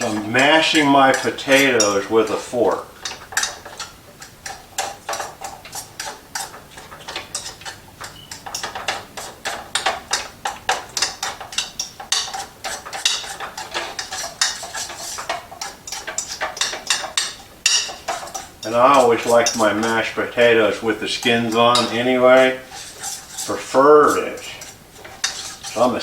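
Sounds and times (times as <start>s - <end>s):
fork clinking and scraping pan: 0.0s - 26.0s.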